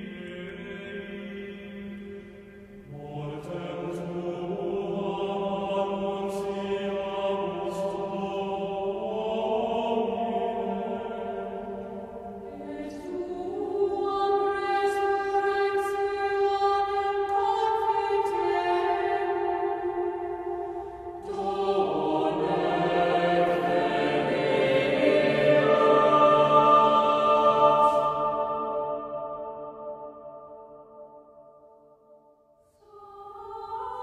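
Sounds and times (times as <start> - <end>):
sacred church music chords: 0.0 - 34.0.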